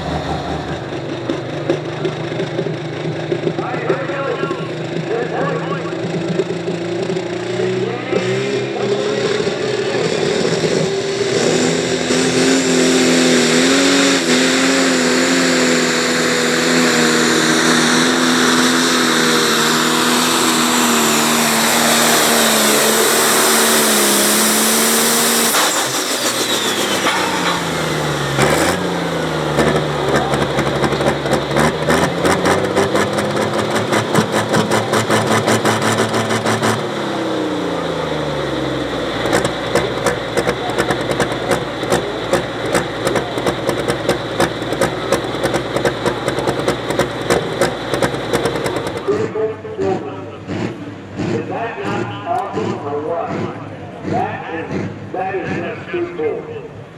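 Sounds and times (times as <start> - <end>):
engine crackling: 0.0 - 56.9
tractor diesel engine revving: 0.0 - 56.9.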